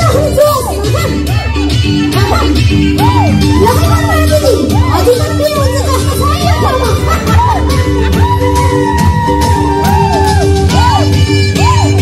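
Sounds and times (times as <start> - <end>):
loud music with heavy bass beat: 0.0 - 12.0.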